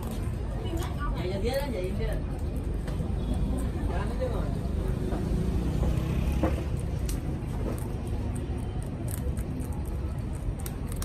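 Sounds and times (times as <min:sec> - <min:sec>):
rabbits chewing leafy greens: 0:00.0 - 0:11.0.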